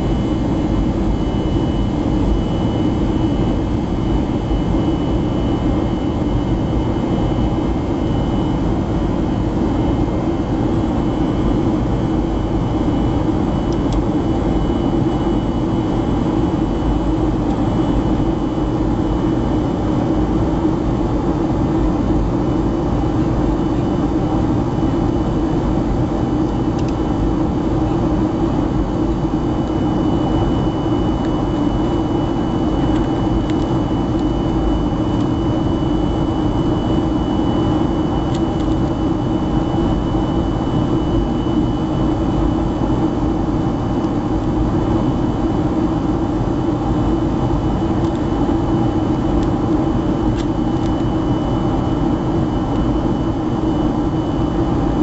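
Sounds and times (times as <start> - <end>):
high engine whine: 0.0 - 55.0
jet engine roar: 0.0 - 55.0.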